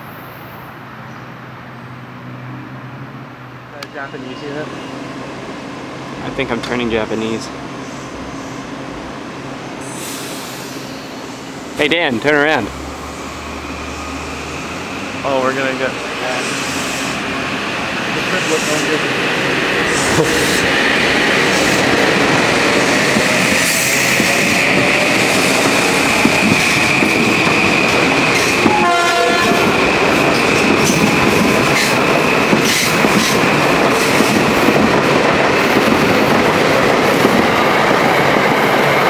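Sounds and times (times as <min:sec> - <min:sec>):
train passing at speed: 0:00.0 - 0:39.0.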